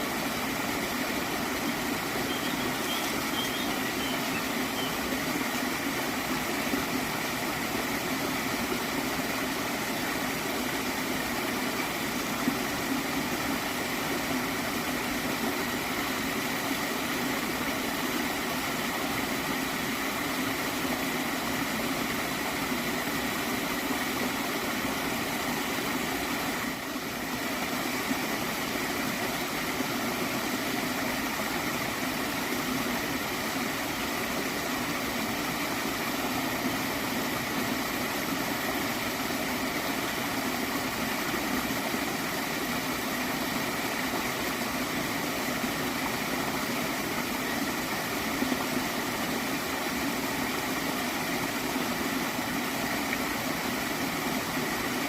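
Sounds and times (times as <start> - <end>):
water stream gurgling: 0.0 - 55.0.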